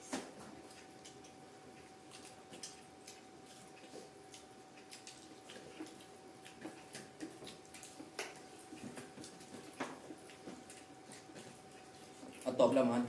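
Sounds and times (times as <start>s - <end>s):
faint steady hum: 0.0s - 13.0s
mouth clicks and chewing smacks: 0.4s - 12.5s.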